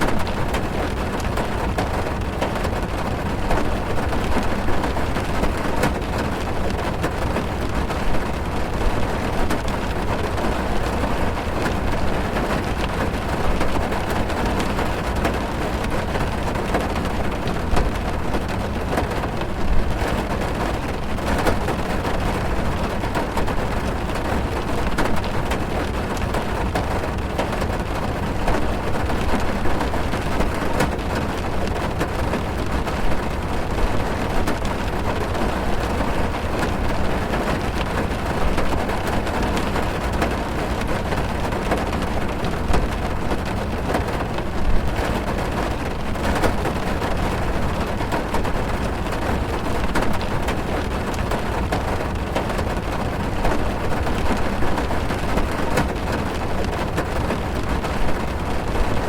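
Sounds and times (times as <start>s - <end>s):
rain drumming on car roof: 0.0s - 59.0s.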